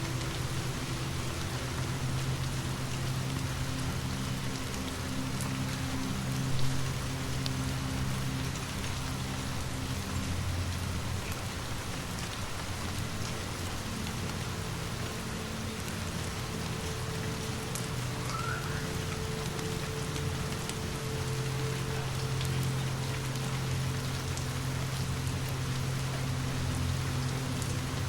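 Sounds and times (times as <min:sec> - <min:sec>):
low drone tones: 0:00.0 - 0:28.0
steady rainfall: 0:00.0 - 0:28.0.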